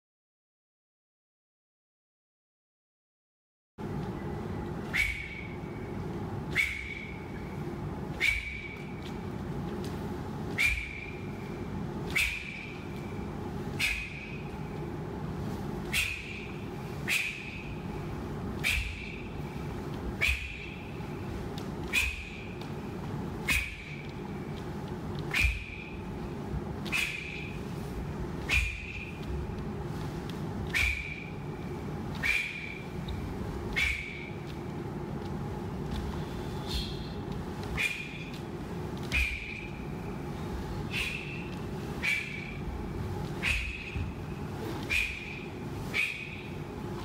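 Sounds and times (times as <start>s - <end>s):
low hum: 3.8s - 47.0s.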